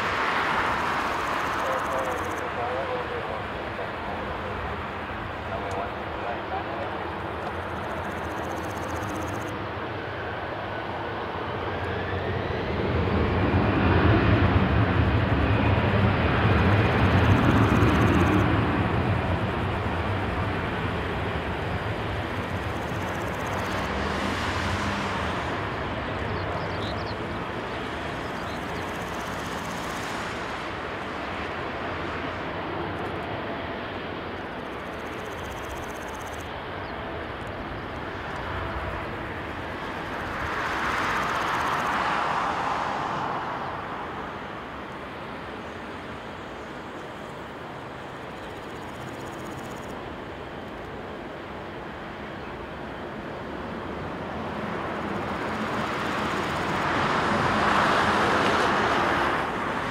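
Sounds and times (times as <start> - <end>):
jet engine rumble and whine: 0.0 - 59.9.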